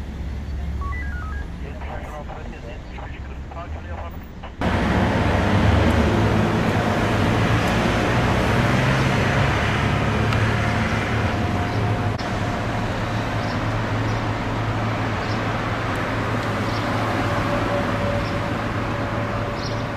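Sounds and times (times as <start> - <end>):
street traffic hum: 0.0 - 19.9.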